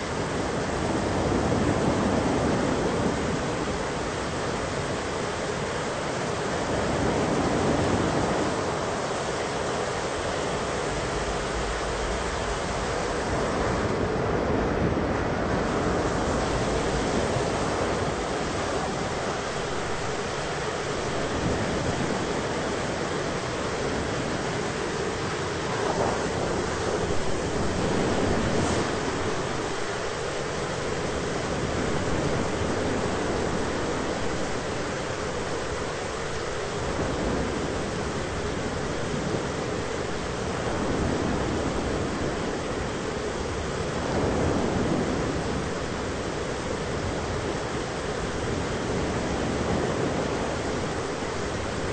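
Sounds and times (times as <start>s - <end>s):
wind and rain rushing: 0.0s - 51.9s.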